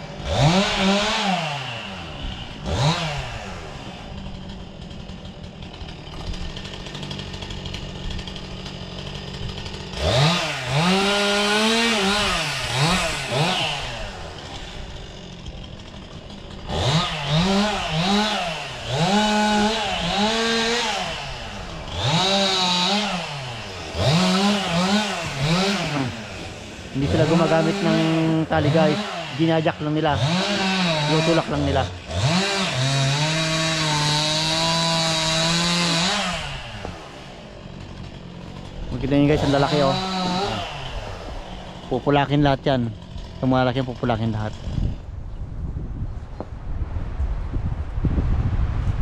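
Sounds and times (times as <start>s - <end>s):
chainsaw idling and revving: 0.0s - 45.7s.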